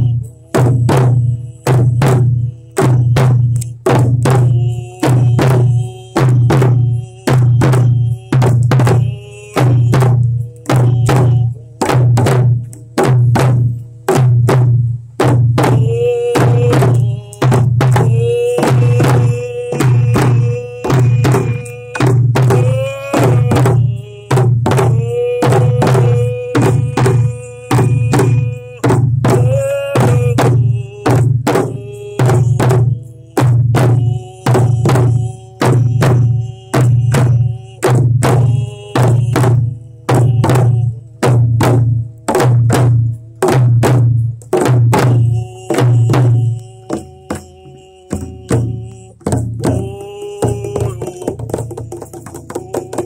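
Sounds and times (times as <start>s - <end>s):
man singing long notes: 0.0s - 14.6s, 15.2s - 53.0s
frame drum booming beat: 0.0s - 53.0s.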